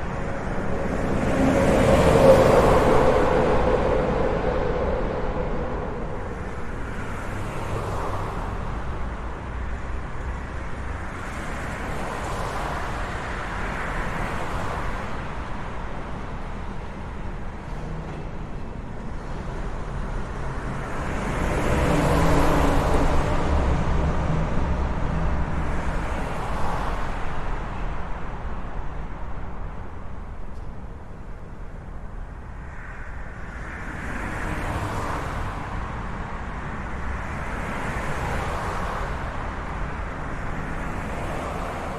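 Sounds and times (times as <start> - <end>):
cars passing: 0.0 - 41.9
traffic rumble: 0.0 - 41.9.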